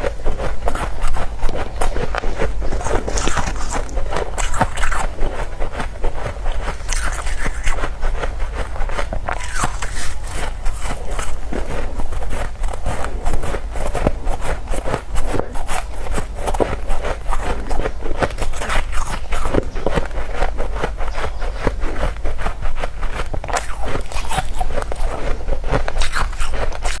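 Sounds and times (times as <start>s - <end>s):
chewing frost crunches: 0.0s - 27.0s.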